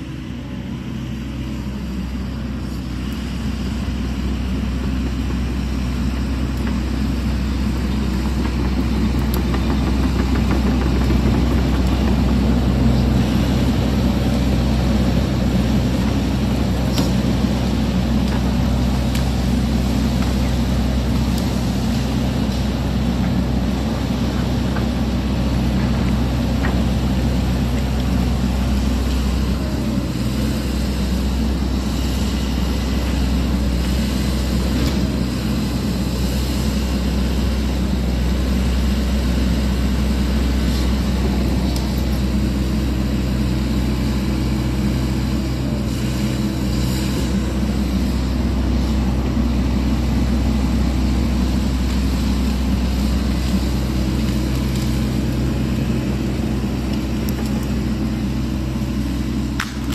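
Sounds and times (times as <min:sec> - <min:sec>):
excavator diesel engine rumbling: 0:00.0 - 0:59.9.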